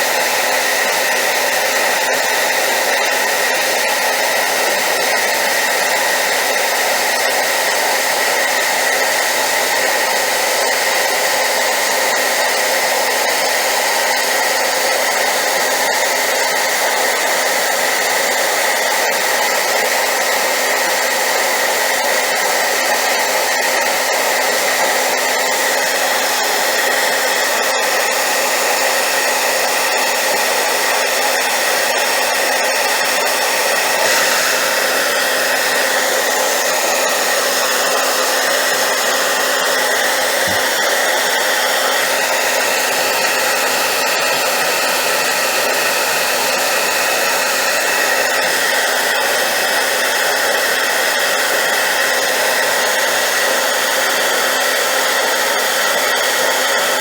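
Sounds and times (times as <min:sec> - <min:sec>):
hairdryer running: 0:00.0 - 0:57.0.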